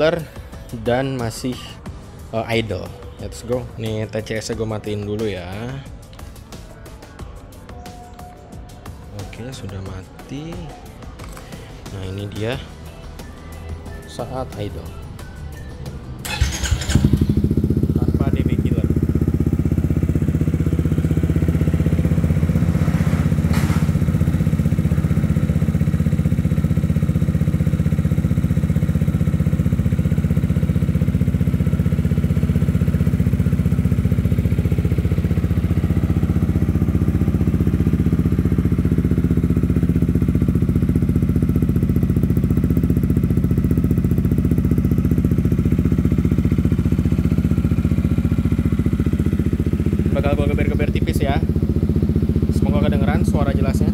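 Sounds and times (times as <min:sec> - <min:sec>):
scooter engine idling: 0:00.0 - 0:53.9.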